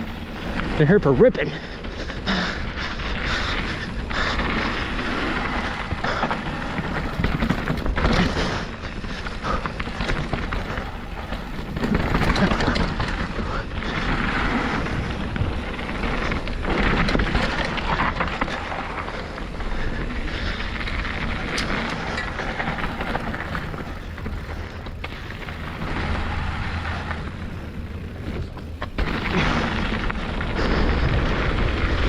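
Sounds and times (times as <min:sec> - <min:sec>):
bike clicks and knocks over bumps: 0:00.0 - 0:32.0
tyre noise on dirt: 0:00.0 - 0:32.0.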